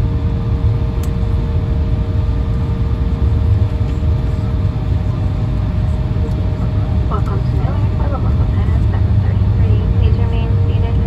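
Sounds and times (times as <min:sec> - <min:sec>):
jet engine low rumble: 0:00.0 - 0:11.0
steady hums: 0:00.0 - 0:11.0.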